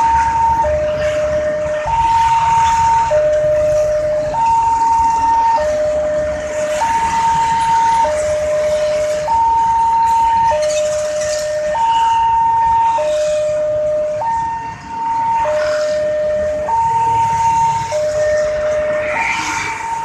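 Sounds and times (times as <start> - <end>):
level crossing two-tone siren: 0.0 - 20.0.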